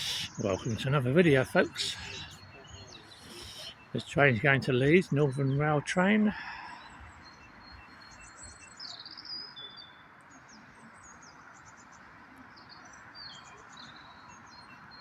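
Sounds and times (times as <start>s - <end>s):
small birds chirping and singing: 0.0s - 15.0s.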